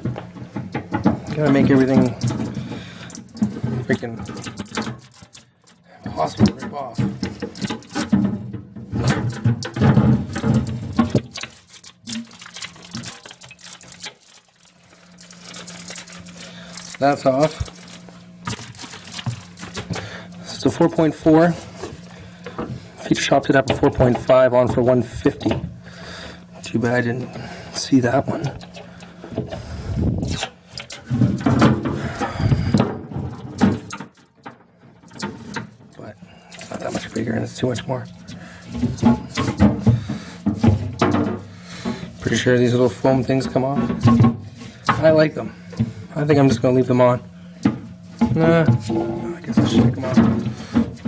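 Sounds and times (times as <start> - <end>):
low steady hum: 0.0 - 51.0
objects rubbing and scraping: 6.2 - 34.0, 35.0 - 51.0.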